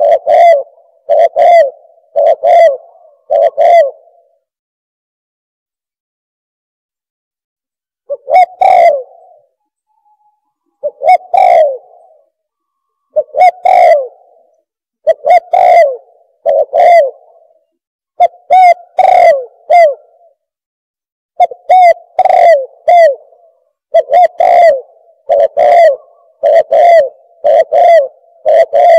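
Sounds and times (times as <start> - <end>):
dove cooing: 0.0 - 4.4, 8.1 - 12.4, 13.0 - 20.4, 21.4 - 28.9.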